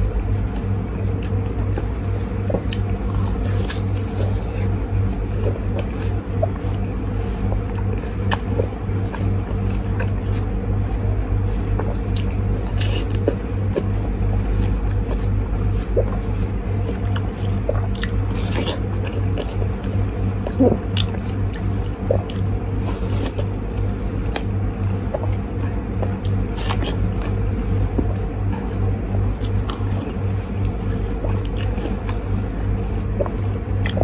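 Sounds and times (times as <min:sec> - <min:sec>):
watermelon bites and chewing: 0:00.0 - 0:34.0.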